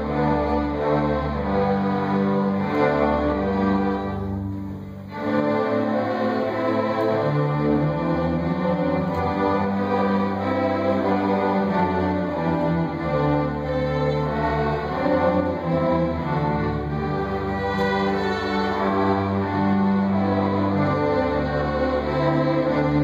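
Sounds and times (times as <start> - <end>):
string orchestra playing: 0.0 - 23.0.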